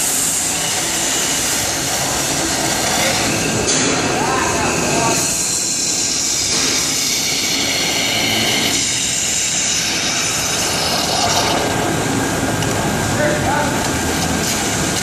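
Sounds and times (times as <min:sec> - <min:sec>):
oxygen jet hissing: 0:00.0 - 0:15.0.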